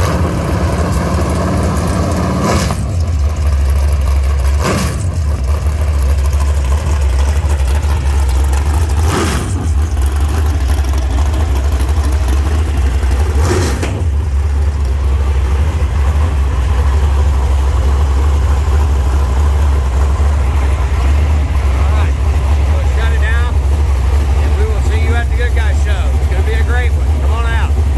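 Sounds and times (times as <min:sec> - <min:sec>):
race engine idling and blipping: 0:00.0 - 0:27.9.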